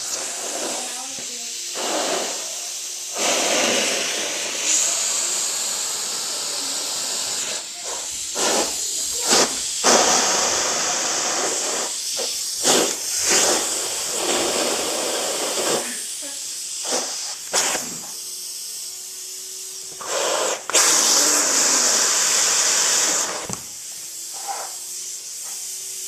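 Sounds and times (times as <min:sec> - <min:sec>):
vacuum cleaner hissing: 0:00.0 - 0:26.0.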